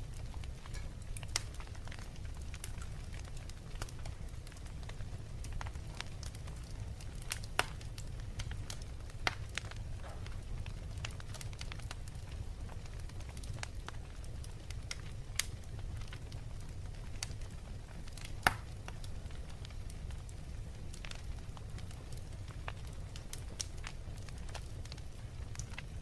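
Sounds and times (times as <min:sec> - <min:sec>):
low rumble of flames: 0:00.0 - 0:26.0
wood fire crackling: 0:00.0 - 0:26.0
fire pops and snaps: 0:00.1 - 0:26.0.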